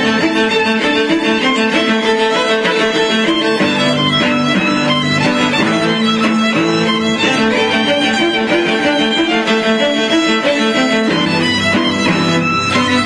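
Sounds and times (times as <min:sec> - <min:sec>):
violin and cello duet: 0:00.0 - 0:13.0.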